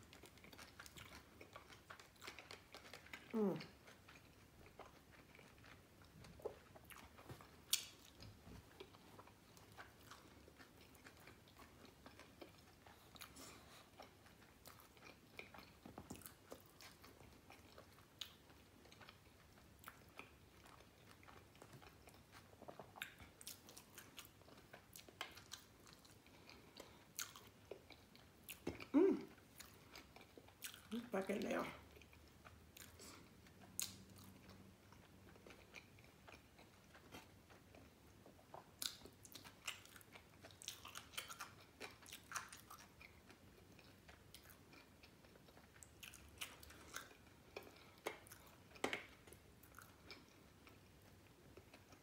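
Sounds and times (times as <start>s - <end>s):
chewing and biting food: 0.0s - 52.0s.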